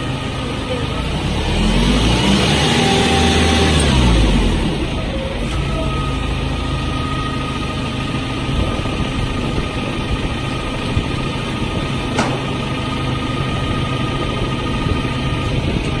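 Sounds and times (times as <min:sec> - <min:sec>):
forklift engine running: 0:00.0 - 0:16.0.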